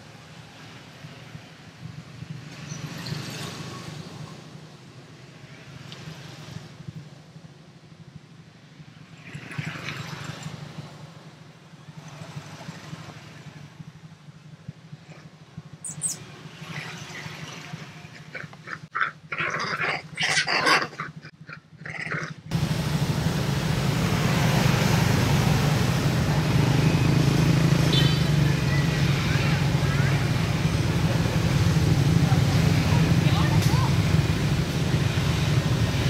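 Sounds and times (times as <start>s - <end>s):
engine and road noise rumble: 0.0s - 36.0s.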